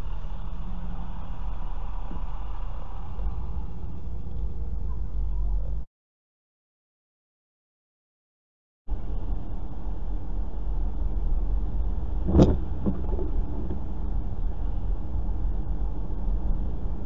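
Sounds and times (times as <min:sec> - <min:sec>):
car road noise on wet highway: 0:00.0 - 0:05.8, 0:08.9 - 0:17.0.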